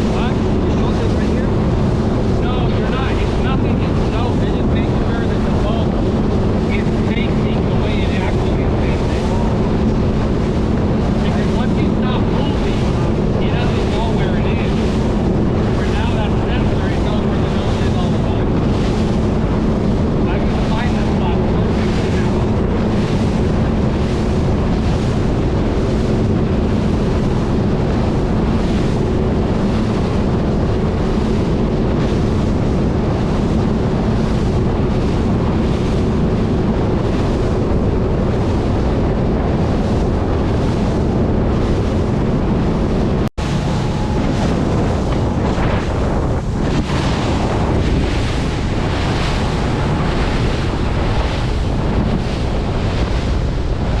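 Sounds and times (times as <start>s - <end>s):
steady low hum: 0.0s - 54.0s
waves washing: 0.0s - 54.0s
wind buffeting microphone: 0.0s - 54.0s.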